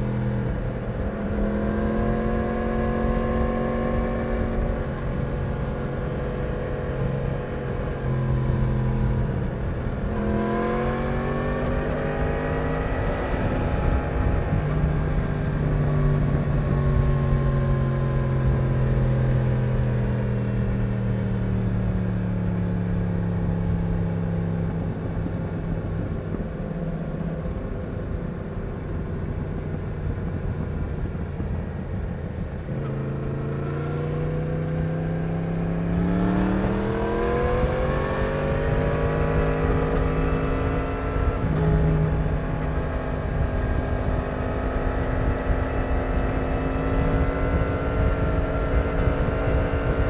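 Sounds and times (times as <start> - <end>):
motorcycle engine: 0.0 - 50.0.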